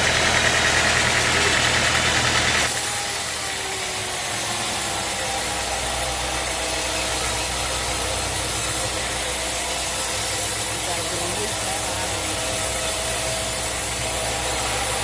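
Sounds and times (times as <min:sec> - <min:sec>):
sawmill engine droning: 0:00.0 - 0:15.0.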